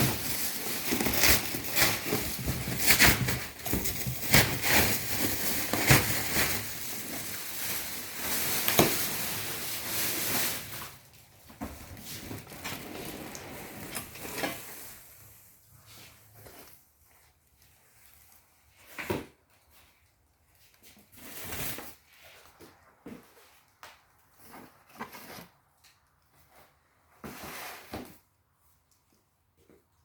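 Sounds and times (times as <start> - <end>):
rustling of objects handled: 0.0 - 30.0.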